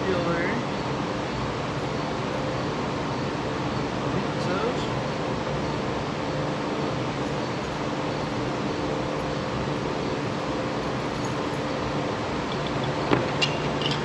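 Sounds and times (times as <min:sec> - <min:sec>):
mechanical drone with low hum: 0:00.0 - 0:14.0.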